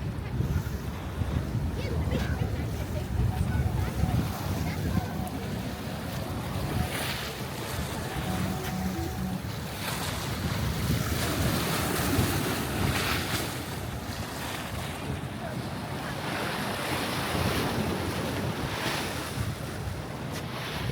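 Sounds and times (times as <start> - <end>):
sea waves washing onto beach: 0.0 - 20.9
wind buffeting microphone: 0.0 - 20.9.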